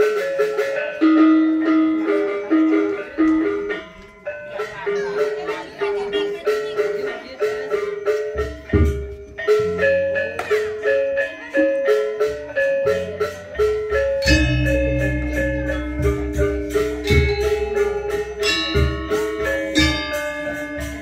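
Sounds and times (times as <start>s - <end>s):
metallophones quick repeated notes: 0.0s - 21.0s.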